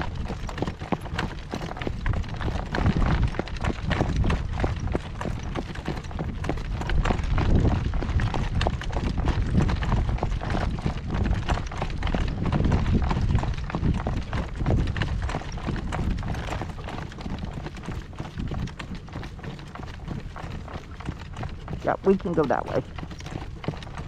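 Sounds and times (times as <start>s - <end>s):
horse hooves clip-clopping on road: 0.0s - 24.0s.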